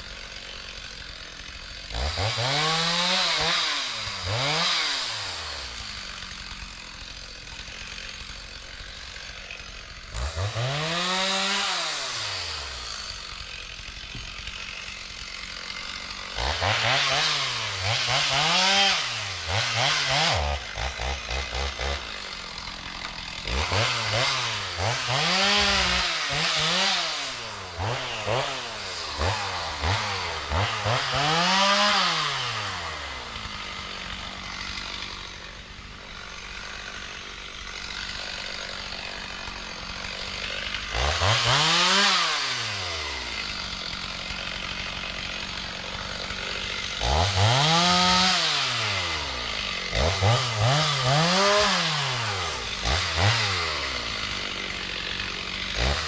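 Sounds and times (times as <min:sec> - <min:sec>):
chainsaw engine idling and revving: 0:00.0 - 0:56.0.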